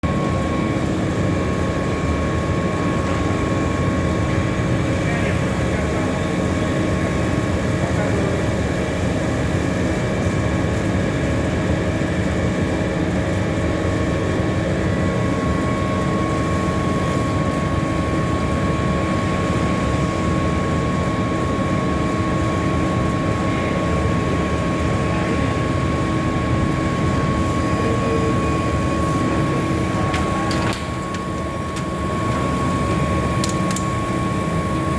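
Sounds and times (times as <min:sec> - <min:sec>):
laser cutter humming and whining: 0:00.0 - 0:34.9.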